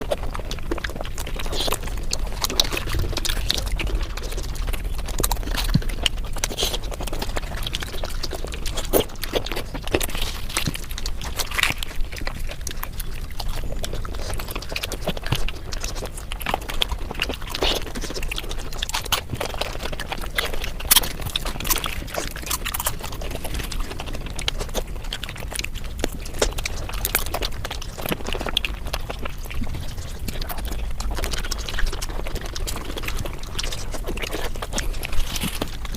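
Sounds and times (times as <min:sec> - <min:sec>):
sped-up chewing and mouth noises: 0:00.0 - 0:35.9.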